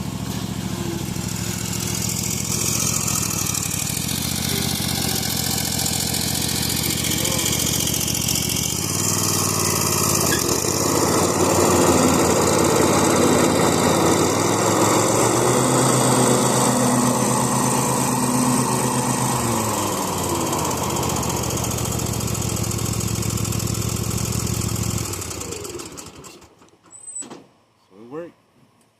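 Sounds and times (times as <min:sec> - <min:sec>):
mower engine running: 0:00.0 - 0:26.6.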